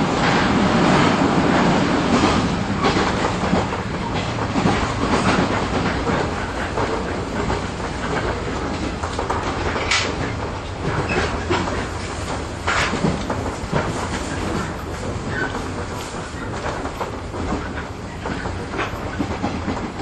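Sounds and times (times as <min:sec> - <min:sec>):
train wheels rumbling: 0:00.0 - 0:20.0
clicks over rail joints: 0:00.2 - 0:20.0.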